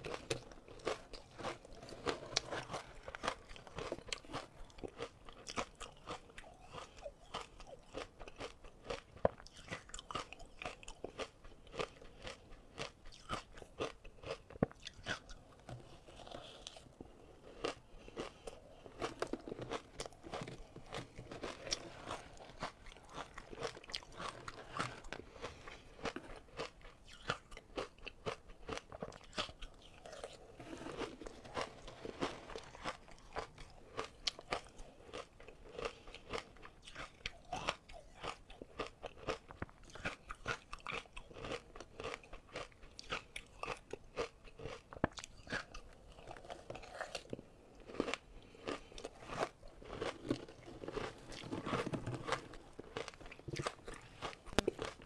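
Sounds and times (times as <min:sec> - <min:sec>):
ice crunching in chewing: 0:00.0 - 0:55.0.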